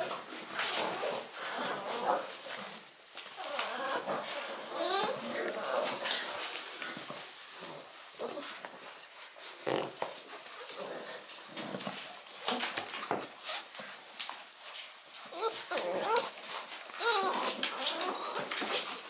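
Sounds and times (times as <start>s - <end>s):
puppy noises: 0.0s - 19.0s.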